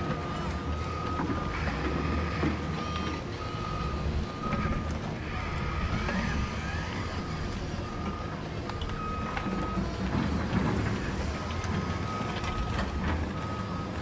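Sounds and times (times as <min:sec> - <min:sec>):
low engine hum: 0:00.0 - 0:14.0
reversing beeps: 0:00.0 - 0:14.0.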